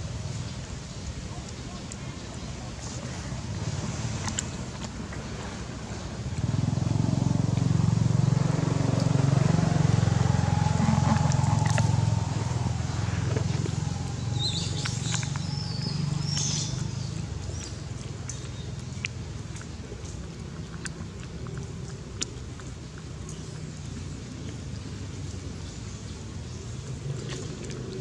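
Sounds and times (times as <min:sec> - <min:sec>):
low engine drone: 0:03.2 - 0:28.0.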